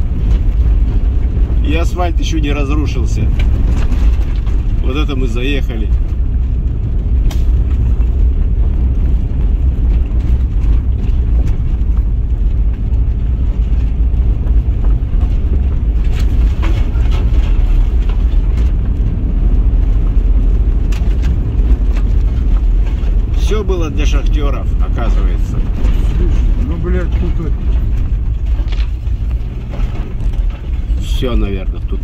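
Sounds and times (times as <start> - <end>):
car knocks and rattles: 0.0 - 32.0
engine and tyre rumble: 0.0 - 32.0.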